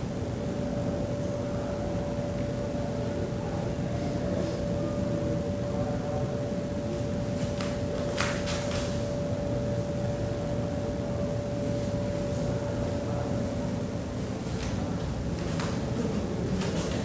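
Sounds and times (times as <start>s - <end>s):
air conditioner hum: 0.0s - 17.0s.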